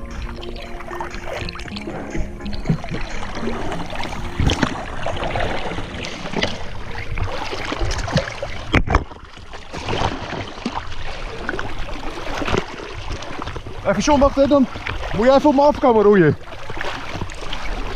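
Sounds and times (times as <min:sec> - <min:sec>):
seawater splashing against boat hull: 0:00.0 - 0:17.9.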